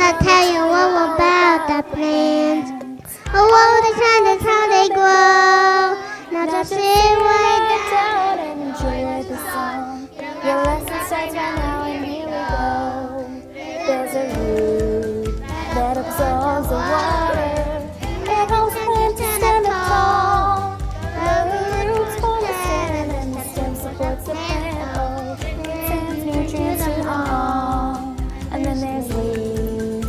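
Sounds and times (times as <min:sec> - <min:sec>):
children singing in unison: 0:00.0 - 0:30.0.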